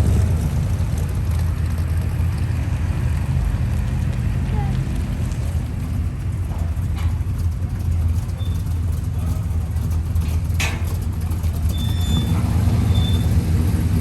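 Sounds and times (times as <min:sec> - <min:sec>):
engine running with low rumble: 0:00.0 - 0:14.0.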